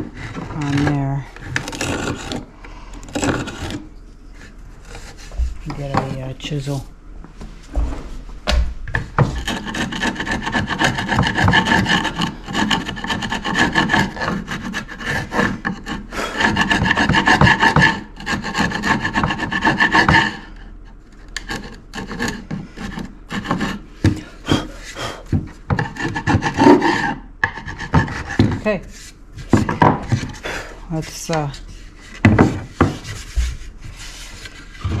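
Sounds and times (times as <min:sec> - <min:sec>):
chisel scraping wood: 0:00.0 - 0:02.5, 0:03.1 - 0:06.7, 0:09.2 - 0:20.6, 0:21.3 - 0:35.0.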